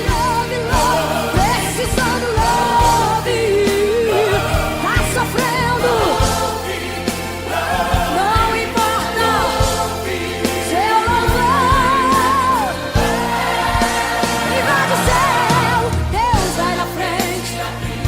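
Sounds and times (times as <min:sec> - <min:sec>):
band accompaniment: 0:00.0 - 0:18.0.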